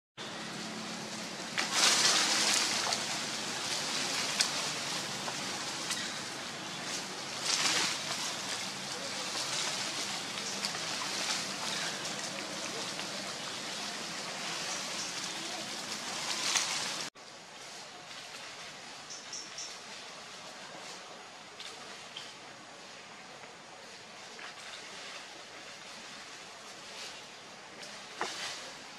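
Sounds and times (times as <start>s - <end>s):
outdoor hiss: 0.2s - 28.9s.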